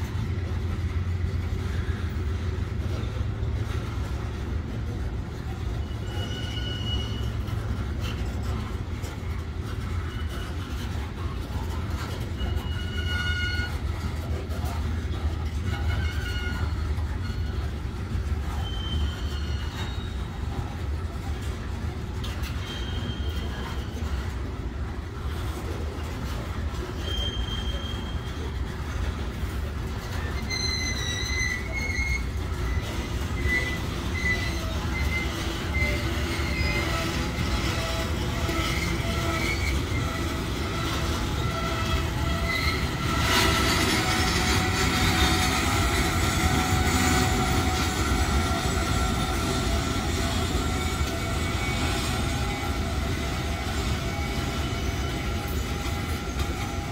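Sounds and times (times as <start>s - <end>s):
steel wheels rumbling on rail: 0.0s - 56.9s
high wheel squeals: 5.4s - 8.7s, 9.7s - 21.0s, 22.2s - 24.3s, 26.9s - 28.8s, 29.9s - 56.9s.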